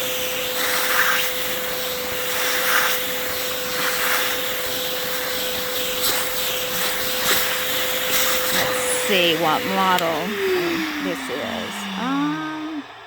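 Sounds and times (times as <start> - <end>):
carpet cleaner motor humming: 0.0 - 13.0.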